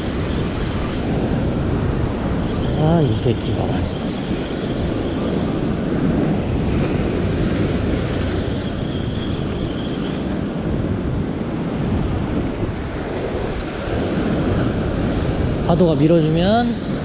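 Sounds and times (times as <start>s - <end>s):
sea surf breaking over rocks: 0.0s - 17.0s
wind buffeting microphone: 0.0s - 17.0s.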